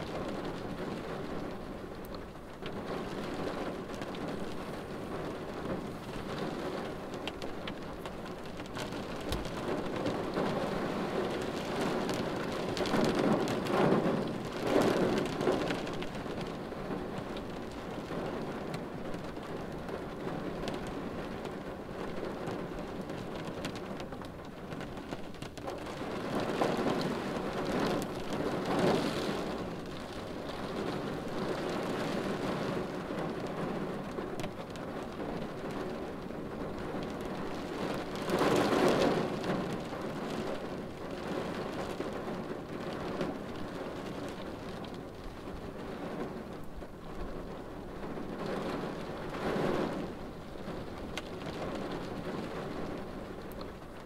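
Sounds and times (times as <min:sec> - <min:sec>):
rain on car windshield: 0:00.0 - 0:54.0.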